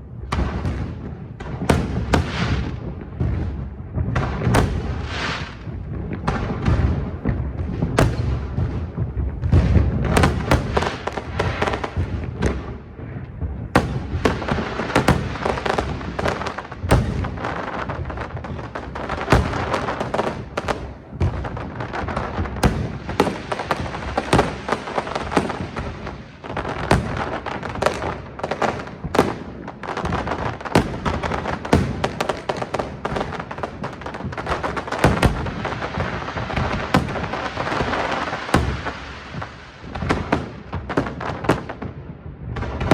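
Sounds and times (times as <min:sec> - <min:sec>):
fireworks bangs and cracks: 0:00.0 - 0:42.9.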